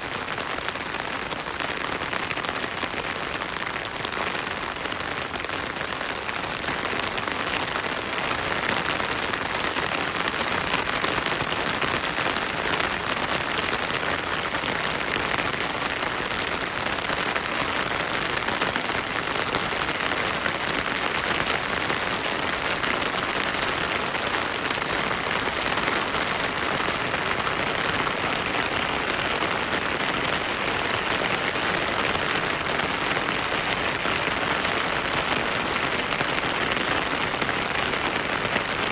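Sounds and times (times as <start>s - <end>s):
heavy rain in forest: 0.0s - 38.9s.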